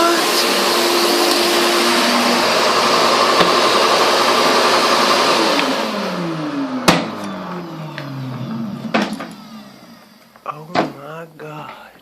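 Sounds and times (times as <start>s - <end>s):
motor winding down: 0.0s - 10.4s
shop vac running: 0.0s - 10.6s.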